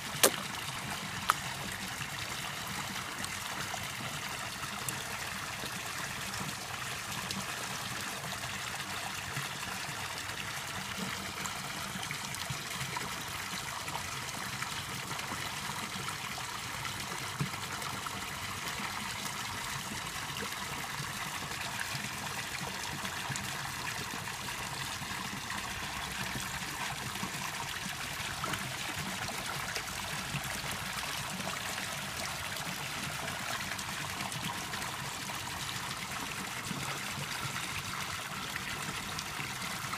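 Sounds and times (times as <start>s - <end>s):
pond water trickling: 0.0s - 39.9s.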